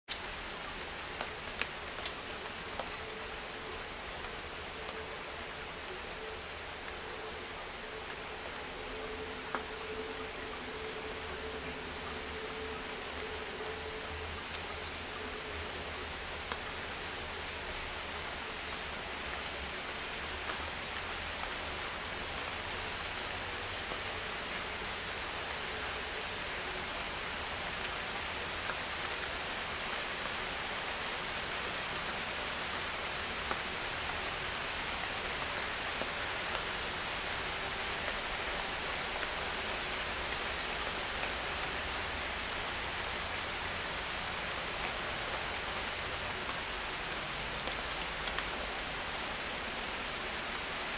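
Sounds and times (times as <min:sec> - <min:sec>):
outdoor ambience hiss: 0:00.1 - 0:50.9.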